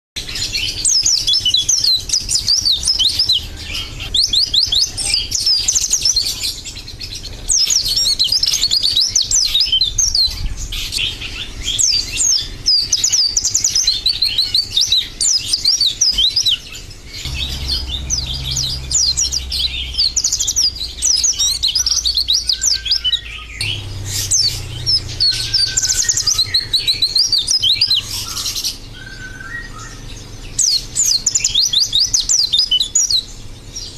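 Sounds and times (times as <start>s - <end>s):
bird twittering chirps: 0.2s - 33.9s.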